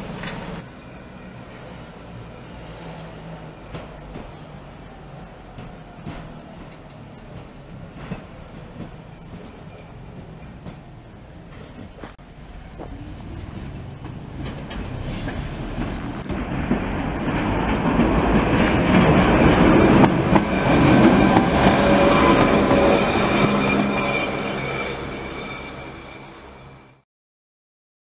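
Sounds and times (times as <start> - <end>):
railcar wheels rumbling and rattling: 0.0 - 27.0.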